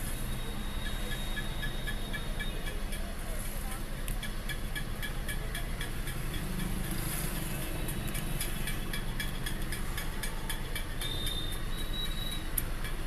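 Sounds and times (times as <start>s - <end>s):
car engine idling: 0.0s - 13.0s
fast light ticking: 0.1s - 3.2s, 3.8s - 13.0s.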